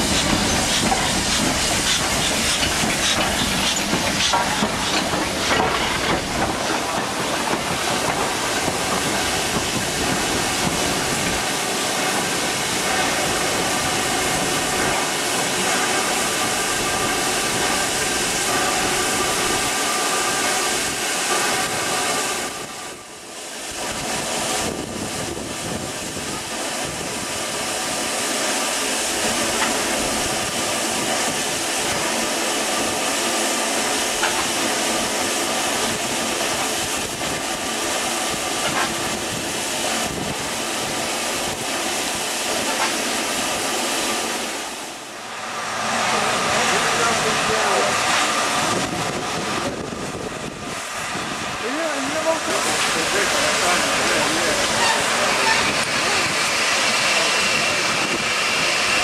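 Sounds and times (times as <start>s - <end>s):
locomotive steam hissing: 0.0s - 59.0s.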